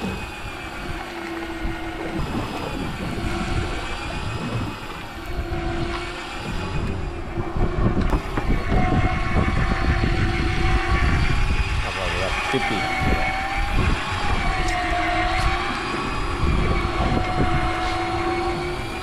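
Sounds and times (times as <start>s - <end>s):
fishing reel motor whine: 0.0s - 19.0s
low rumble: 0.0s - 19.0s.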